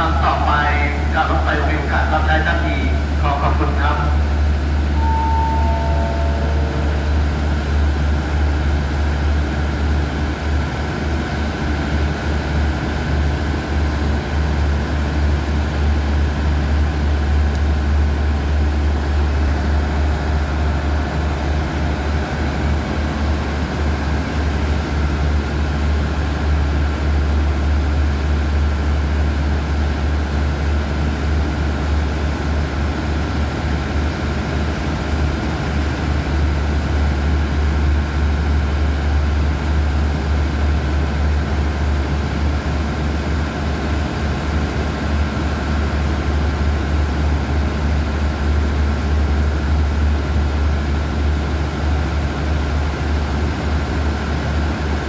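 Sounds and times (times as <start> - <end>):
diesel train engine idling: 0.0 - 55.0.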